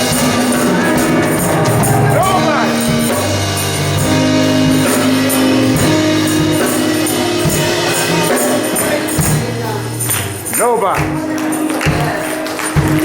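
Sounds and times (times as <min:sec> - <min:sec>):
gospel band held chords: 0:00.0 - 0:13.0
tambourine shaken: 0:00.0 - 0:13.0.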